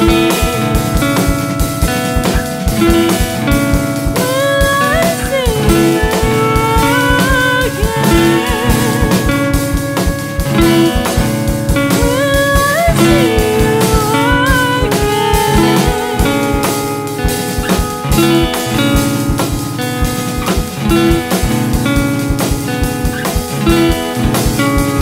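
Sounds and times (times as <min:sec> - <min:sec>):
repeating bass line: 0:00.0 - 0:04.2, 0:05.6 - 0:25.0
lead guitar bending notes: 0:00.0 - 0:25.0
steady drum beat: 0:00.0 - 0:25.0.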